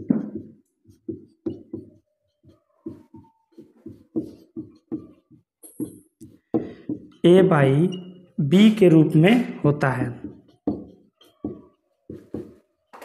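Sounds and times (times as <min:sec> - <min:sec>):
marker writing on whiteboard: 0:00.0 - 0:13.0.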